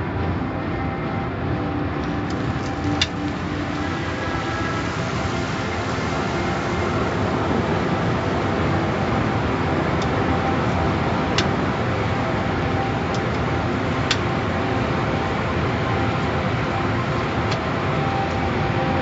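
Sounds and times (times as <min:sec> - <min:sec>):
faint machine hum: 0:00.0 - 0:19.0
water and air rushing: 0:00.0 - 0:19.0.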